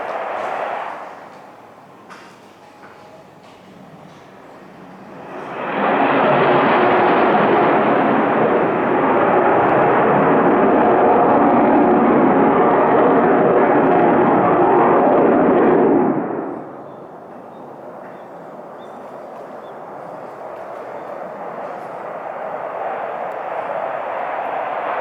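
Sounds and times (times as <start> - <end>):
fighter jet roaring overhead: 0.0 - 2.1, 4.6 - 25.0.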